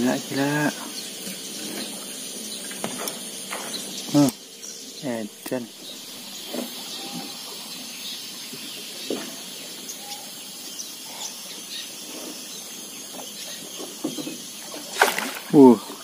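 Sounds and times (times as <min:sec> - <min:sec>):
faint bird chirps: 0:00.0 - 0:16.0
steady river hiss: 0:00.0 - 0:16.0.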